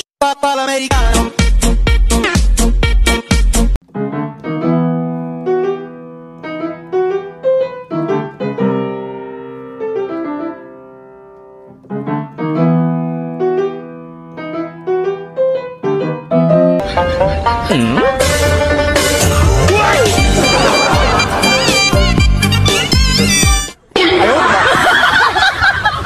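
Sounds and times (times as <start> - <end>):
piano music: 1.1 - 23.8.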